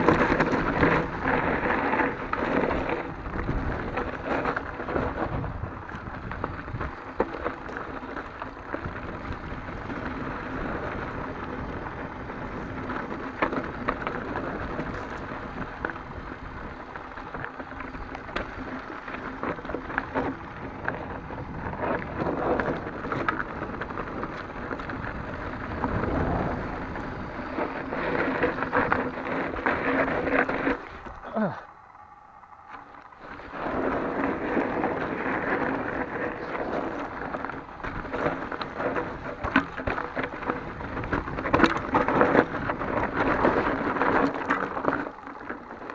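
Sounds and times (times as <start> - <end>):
bike clicks and rattles: 0.0 - 45.9
bike tyres crunching on dirt: 0.0 - 45.9.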